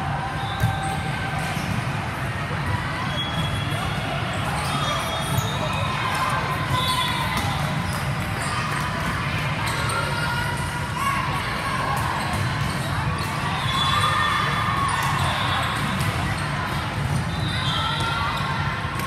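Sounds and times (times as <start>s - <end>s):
voices in a large hall: 0.0s - 19.0s
balls bouncing and being hit: 0.4s - 10.0s, 11.5s - 19.0s.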